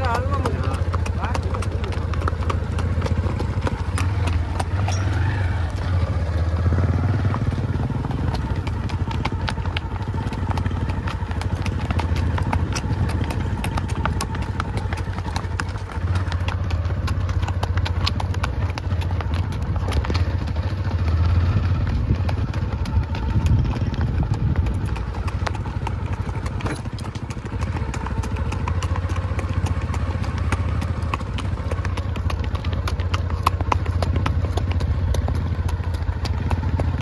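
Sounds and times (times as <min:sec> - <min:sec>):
horse hoofbeats on dirt: 0:00.0 - 0:37.0.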